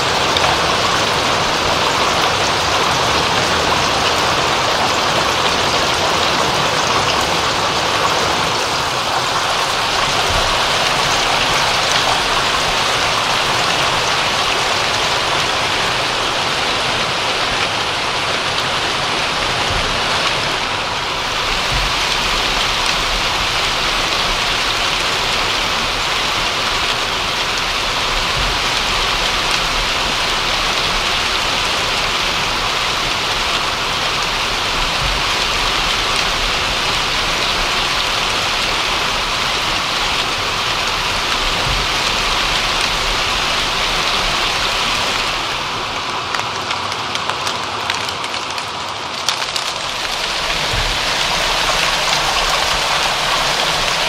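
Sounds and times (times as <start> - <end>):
heavy raindrop thuds: 0.0 - 54.0
rain pattering on a surface: 0.0 - 54.0.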